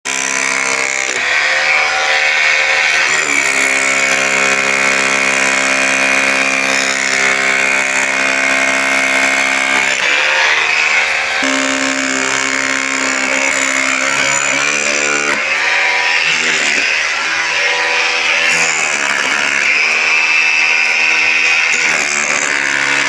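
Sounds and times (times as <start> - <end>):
power tool motor under load: 0.1 - 23.0.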